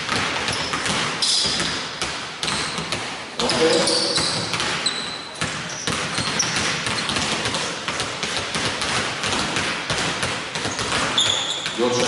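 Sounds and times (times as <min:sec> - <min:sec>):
basketballs bouncing on hardwood: 0:00.0 - 0:12.0.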